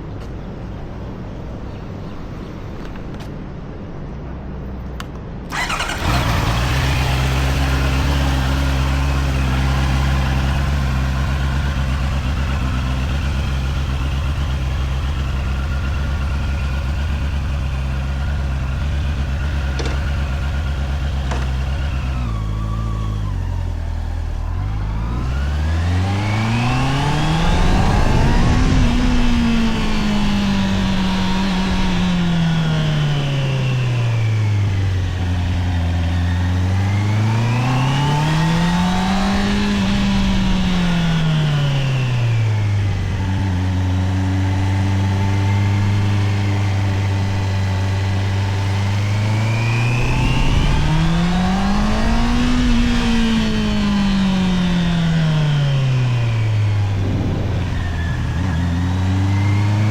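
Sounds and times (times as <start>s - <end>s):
motorcycle engine and exhaust: 5.5s - 59.9s.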